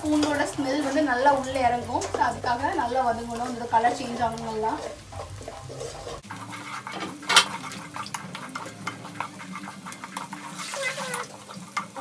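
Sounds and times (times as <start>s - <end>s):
onions frying in oil: 0.0s - 12.0s
spatula scraping and tapping pot: 0.0s - 12.0s.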